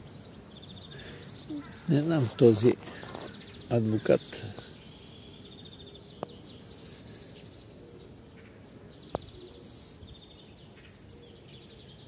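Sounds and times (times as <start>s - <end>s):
faint background noise: 0.0s - 12.0s
songbird trilling: 0.0s - 12.0s.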